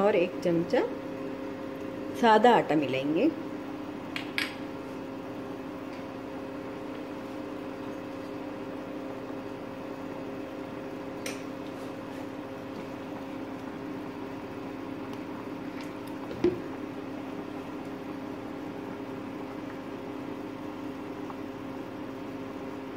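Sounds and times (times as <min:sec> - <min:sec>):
steady mechanical hum: 0:00.0 - 0:22.9.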